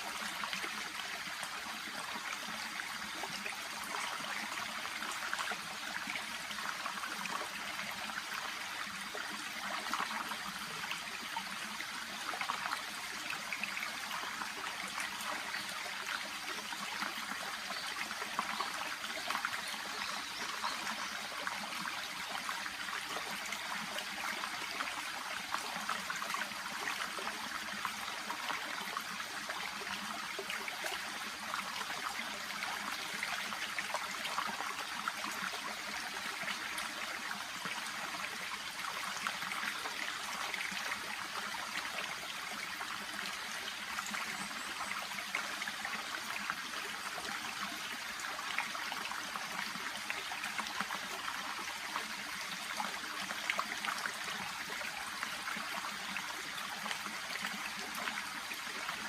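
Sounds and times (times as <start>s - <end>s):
babbling brook: 0.0s - 59.0s.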